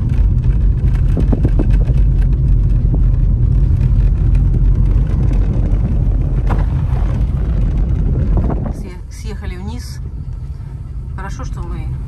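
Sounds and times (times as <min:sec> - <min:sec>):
car rumbling on rough track: 0:00.0 - 0:12.0.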